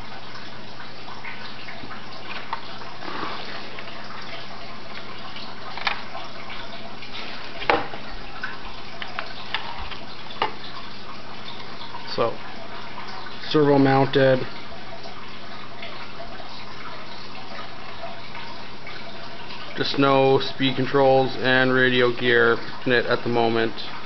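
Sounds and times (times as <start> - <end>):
background hiss with low hum: 0.0 - 24.0.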